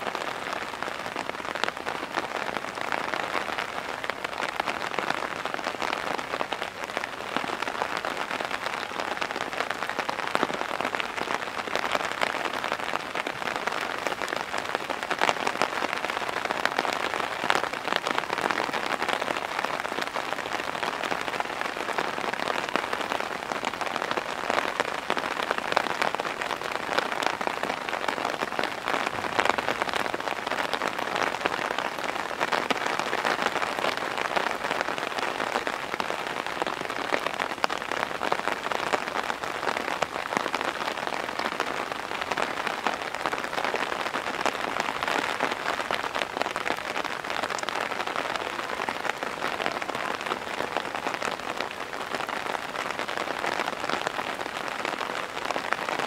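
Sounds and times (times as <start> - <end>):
heavy rain on hard surfaces: 0.0 - 56.0.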